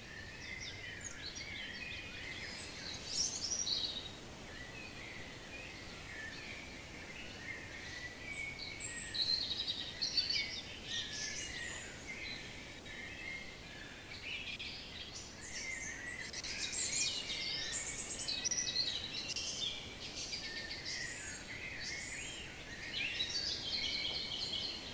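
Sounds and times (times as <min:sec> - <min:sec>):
songbirds chirping and trilling: 0:00.0 - 0:24.9.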